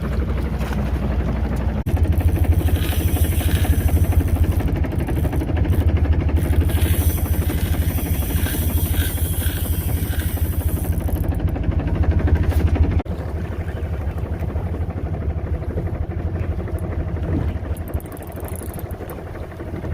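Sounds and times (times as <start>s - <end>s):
boat engine throbbing: 0.0s - 19.9s.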